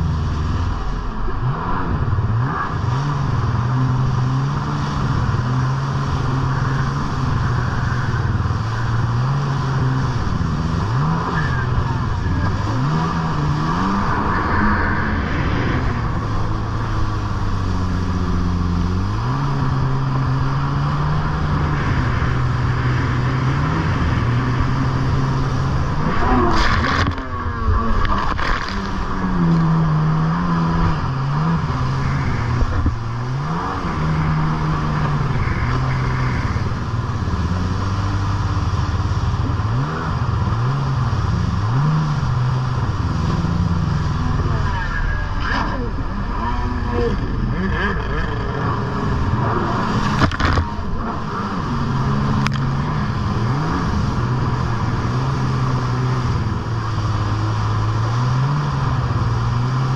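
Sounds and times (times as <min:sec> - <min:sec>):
jet ski engine running hard: 0:00.0 - 0:59.9
loud splashing: 0:02.3 - 0:59.9.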